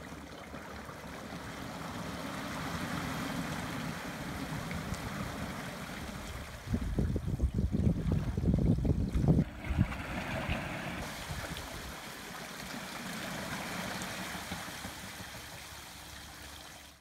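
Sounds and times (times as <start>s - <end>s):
wheels splashing through water: 0.0s - 17.0s.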